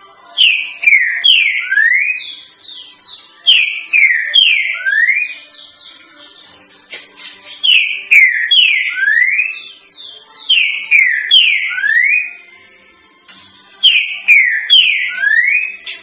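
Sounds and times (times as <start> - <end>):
bird singing whistled song: 0.4 - 16.0.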